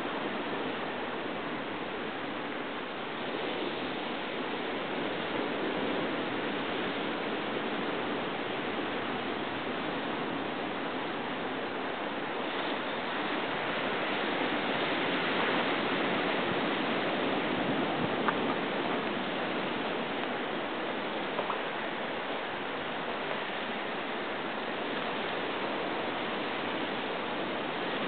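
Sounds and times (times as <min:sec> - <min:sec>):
surf washing on rocky shore: 0:00.0 - 0:28.0.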